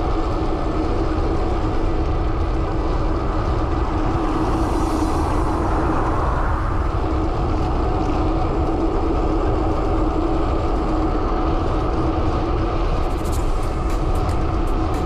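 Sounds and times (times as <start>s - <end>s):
constant low hum: 0.0s - 15.0s
wind rushing on microphone: 0.0s - 15.0s.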